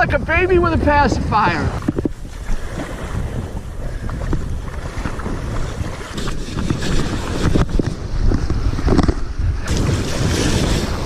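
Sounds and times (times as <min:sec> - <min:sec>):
surf and sloshing water: 0:00.0 - 0:11.0
wind buffeting microphone: 0:00.0 - 0:11.0
short knocks and splashes: 0:01.8 - 0:11.0.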